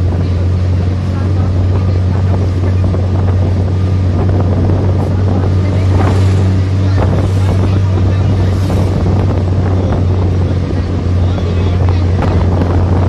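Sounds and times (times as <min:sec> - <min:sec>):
vehicle engine low drone: 0:00.0 - 0:13.0
wind rushing through window: 0:00.0 - 0:13.0.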